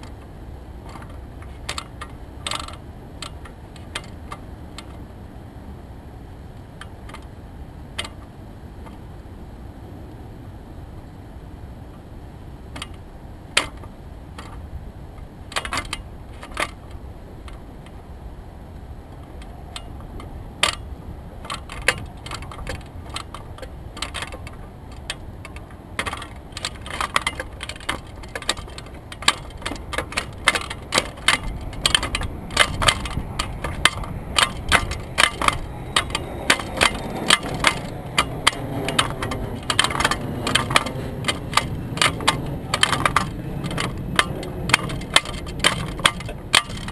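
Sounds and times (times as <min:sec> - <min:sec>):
steady low rumble: 0:00.0 - 0:46.9.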